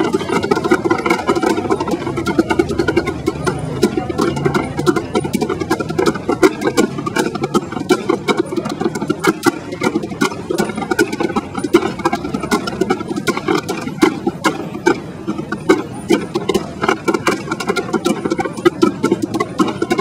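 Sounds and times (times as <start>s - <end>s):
tap shoes clicking on wooden board: 0.0s - 20.0s.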